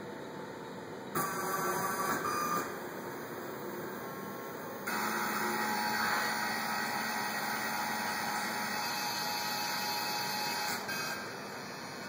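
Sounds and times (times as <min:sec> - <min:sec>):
machine motor whine: 0:01.1 - 0:12.0.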